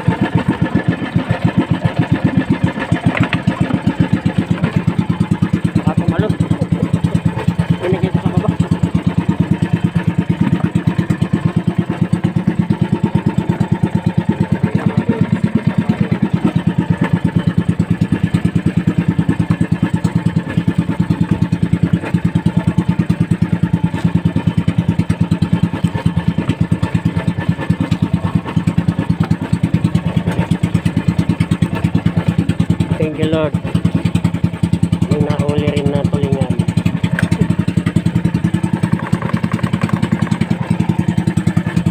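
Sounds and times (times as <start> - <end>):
boat engine puttering: 0.0 - 41.9.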